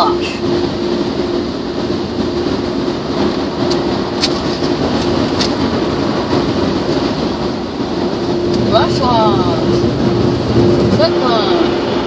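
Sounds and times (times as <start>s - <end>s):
car wash blowers rushing air: 0.0s - 12.0s.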